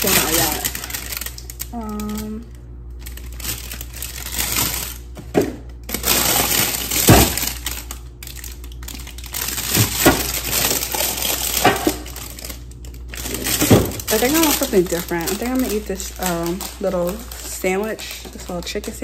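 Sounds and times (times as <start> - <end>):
packaging rustling and crinkling: 0.0 - 19.0
food items knocking: 3.2 - 19.0.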